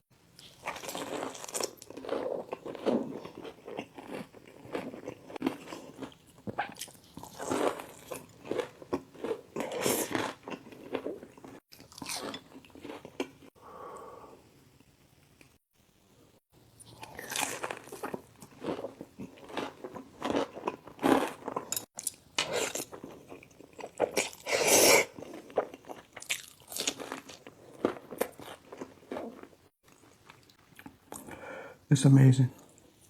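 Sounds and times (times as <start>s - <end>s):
crunchy bites and chewing: 0.4s - 13.5s, 16.9s - 31.3s.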